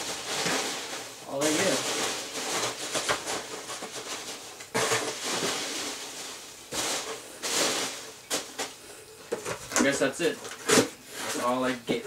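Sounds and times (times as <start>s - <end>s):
hands rustling packing peanuts: 0.0s - 12.0s.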